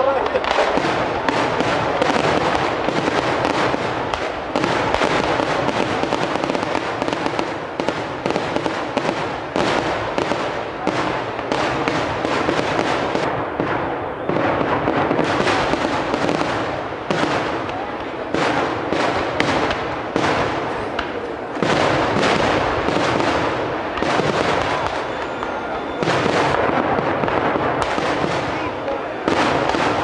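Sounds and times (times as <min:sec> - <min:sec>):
firecracker barrage: 0:00.0 - 0:30.0.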